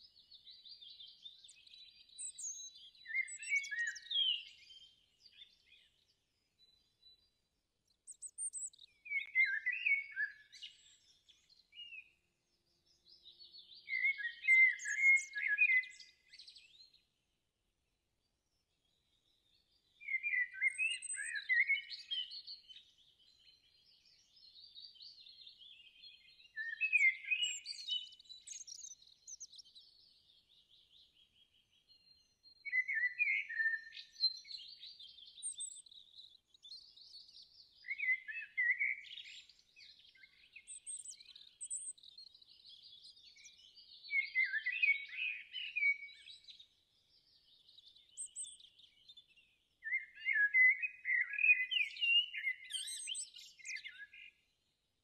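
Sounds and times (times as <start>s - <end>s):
birds singing and chirping: 0.0s - 17.2s, 18.5s - 54.8s.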